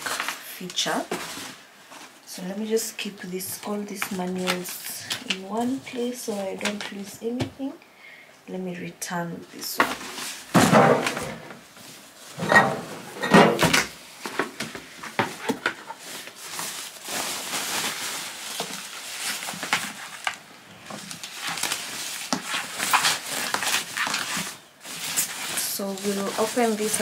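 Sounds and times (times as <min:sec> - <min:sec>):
wrapping and cardboard rustling: 0:00.0 - 0:07.7, 0:09.6 - 0:27.0.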